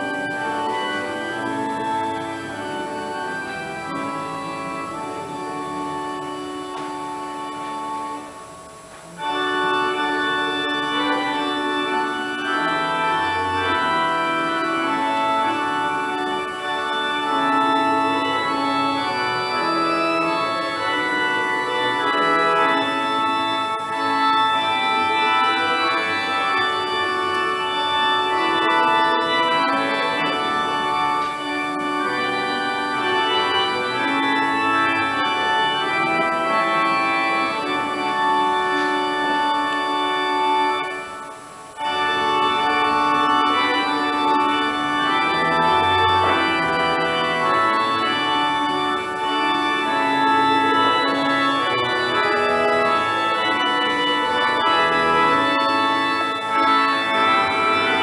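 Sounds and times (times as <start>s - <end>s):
instrumental hymn over loudspeaker: 0.0s - 58.0s.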